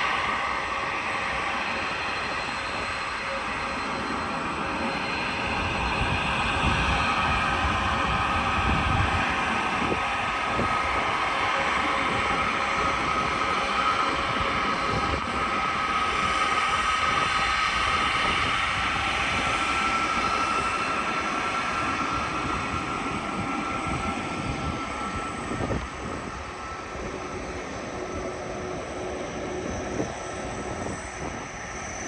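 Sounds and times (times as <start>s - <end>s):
jet engines rumbling and whining: 0.0s - 32.0s.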